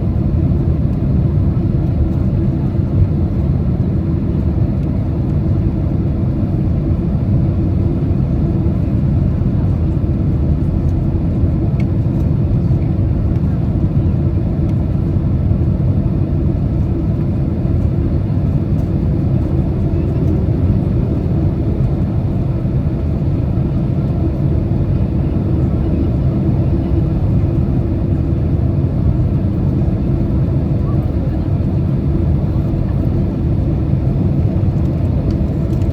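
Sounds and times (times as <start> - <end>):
aircraft cabin engine rumble: 0.0 - 35.9.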